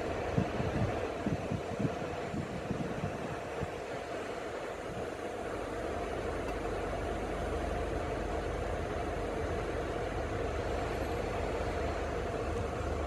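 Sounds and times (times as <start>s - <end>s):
car cabin hum and rumble: 0.0s - 13.0s.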